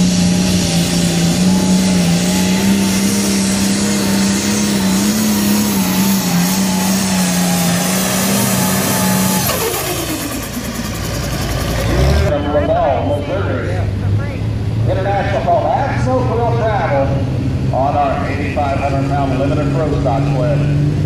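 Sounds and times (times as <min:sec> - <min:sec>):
tractor diesel engine running hard: 0:00.0 - 0:21.0.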